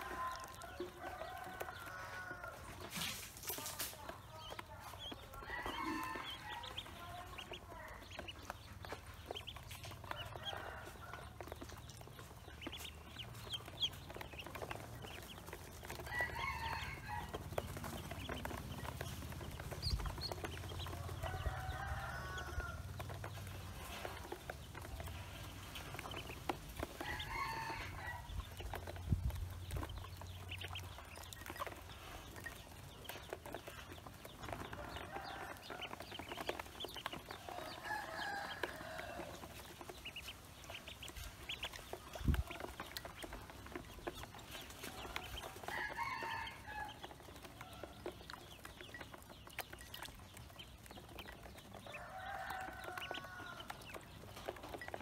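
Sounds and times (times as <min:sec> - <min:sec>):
feet and bills tapping plastic: 0:00.0 - 0:55.0.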